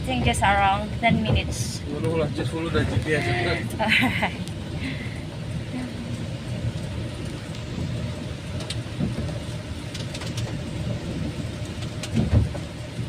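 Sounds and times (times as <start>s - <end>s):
car engine and road rumble: 0.0s - 13.0s
rain ticking on car: 0.0s - 13.0s.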